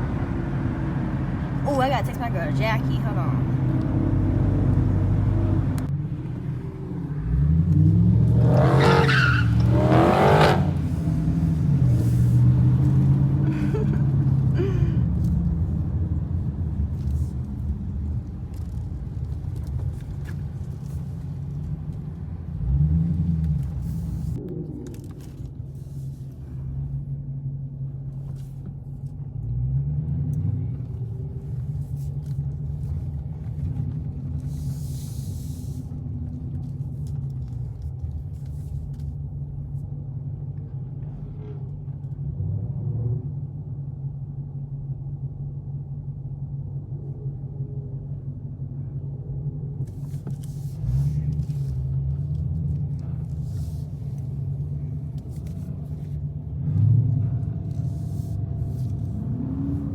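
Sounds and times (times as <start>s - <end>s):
car engine and exhaust drone: 0.0s - 59.9s.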